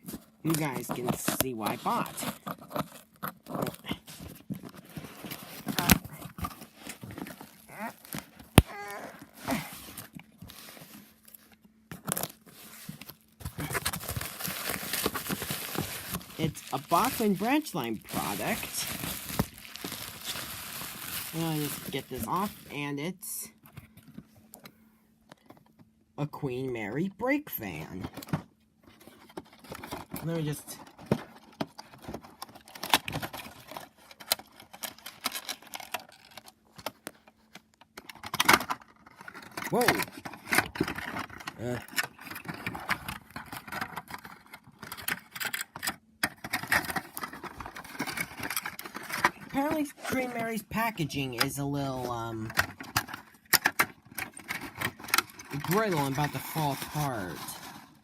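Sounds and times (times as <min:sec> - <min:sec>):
packaging tearing and crinkling: 0:00.0 - 0:11.2, 0:12.0 - 0:22.8, 0:29.4 - 0:51.4, 0:52.1 - 0:58.0.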